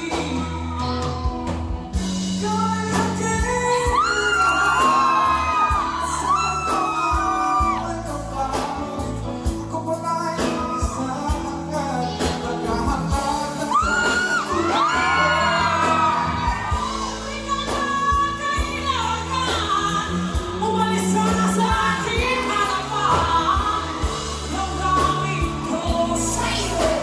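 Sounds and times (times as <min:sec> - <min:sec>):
person singing with vibrato: 0:00.0 - 0:27.0.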